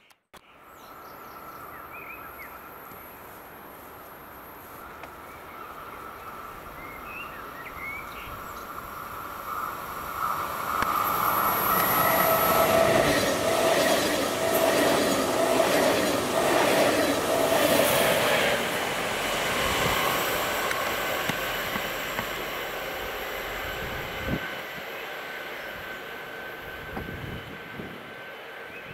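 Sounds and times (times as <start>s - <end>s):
electric train passing: 2.4s - 28.9s.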